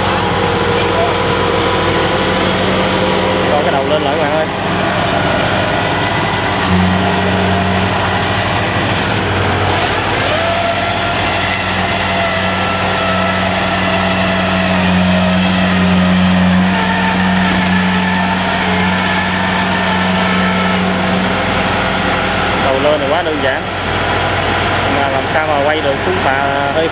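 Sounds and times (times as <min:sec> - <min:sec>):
diesel engine running under load: 0:00.0 - 0:26.9.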